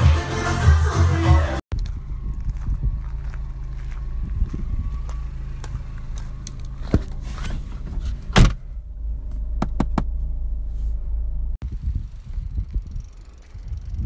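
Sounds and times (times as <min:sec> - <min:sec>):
car engine rumbling: 0:01.7 - 0:14.0.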